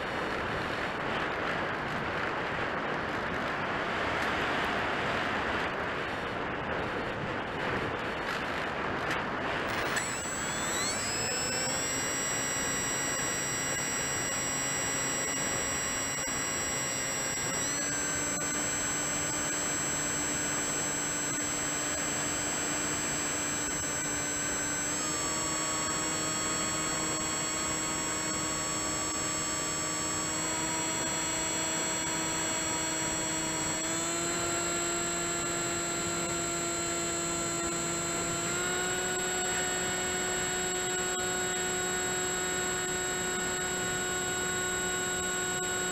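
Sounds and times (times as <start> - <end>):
electric motor and propeller whining: 9.2 - 45.9.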